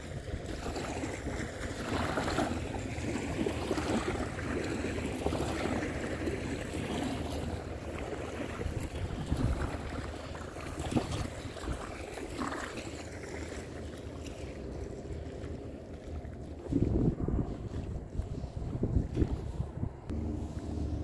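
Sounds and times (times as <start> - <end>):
small waves lapping on sand: 0.0 - 21.0
wind rumbling on microphone: 0.0 - 21.0.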